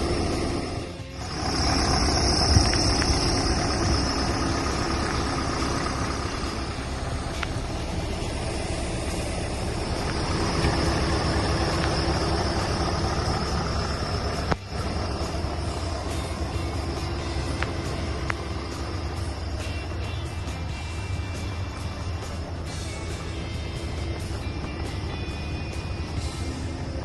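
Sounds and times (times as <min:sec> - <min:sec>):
diesel truck engine running: 0:00.0 - 0:27.0.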